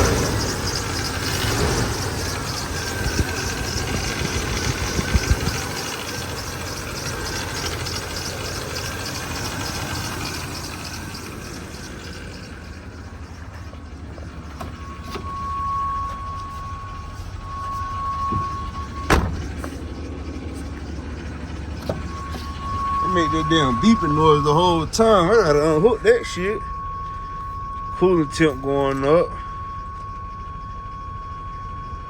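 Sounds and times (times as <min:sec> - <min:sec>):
engine idling: 0:00.0 - 0:32.0
high warning chime beeping: 0:00.0 - 0:32.0.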